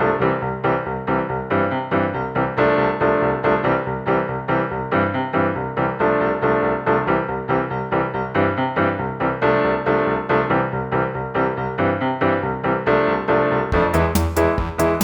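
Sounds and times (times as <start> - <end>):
piano background music with beat: 0.0 - 15.0.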